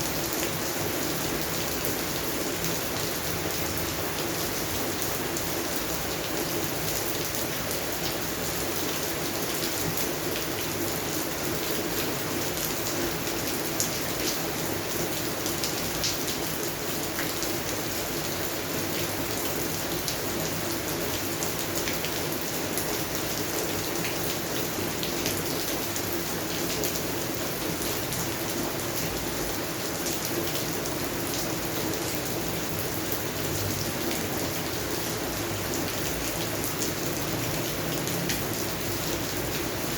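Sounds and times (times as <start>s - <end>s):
rain falling on plants: 0.0s - 39.9s.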